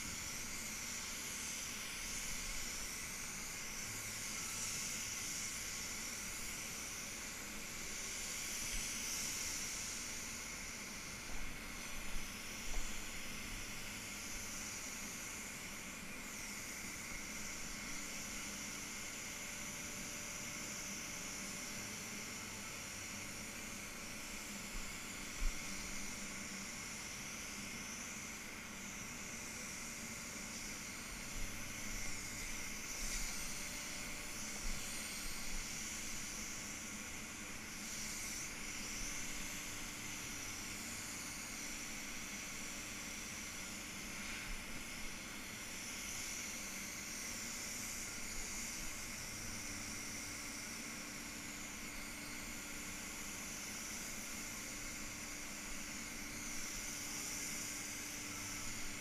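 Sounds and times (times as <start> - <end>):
paint spray gun hissing: 0.0 - 59.0
steady low hum: 0.0 - 59.0.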